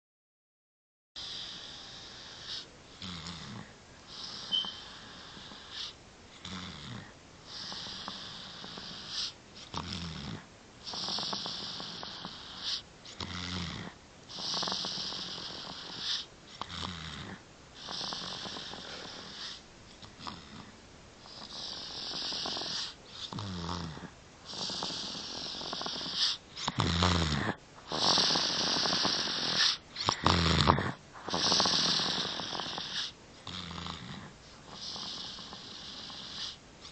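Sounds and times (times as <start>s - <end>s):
baby snoring: 1.2s - 36.9s.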